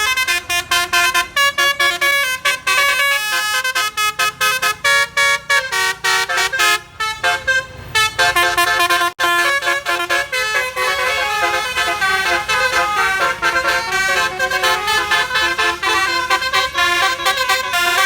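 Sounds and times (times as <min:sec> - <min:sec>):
musical air horn tooting: 0:00.0 - 0:18.0.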